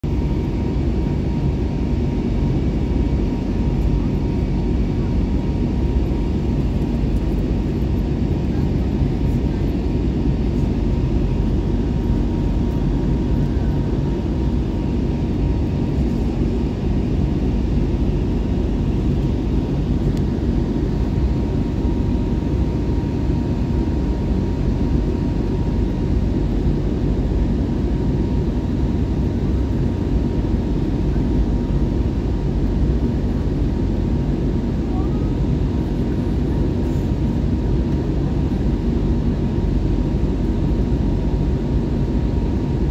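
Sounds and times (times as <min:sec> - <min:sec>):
airliner engine and air roar: 0:00.0 - 0:42.9.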